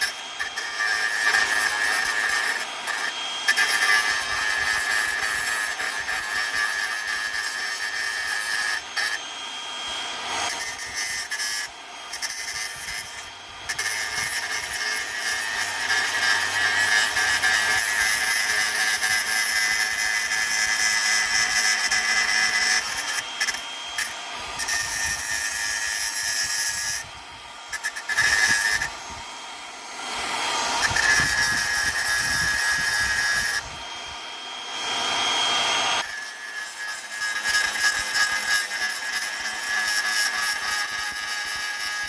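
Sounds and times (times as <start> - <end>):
power tool whining against metal: 0.0 - 42.0.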